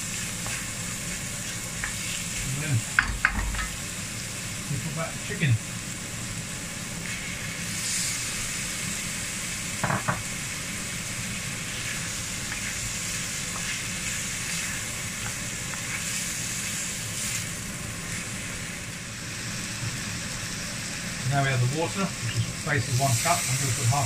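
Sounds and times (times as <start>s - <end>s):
food sizzling in a wok: 0.0s - 24.0s.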